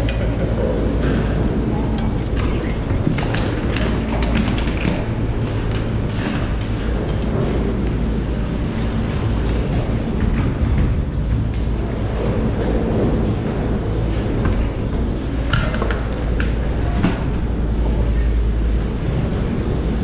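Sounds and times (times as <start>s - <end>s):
chairlift machinery rumbling: 0.0s - 20.0s.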